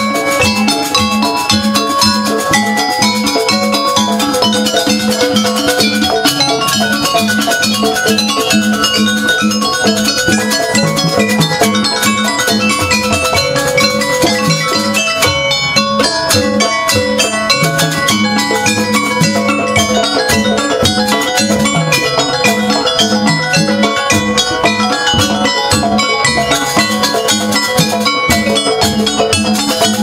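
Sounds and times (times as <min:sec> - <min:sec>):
tuned metal percussion strokes: 0:00.0 - 0:30.0.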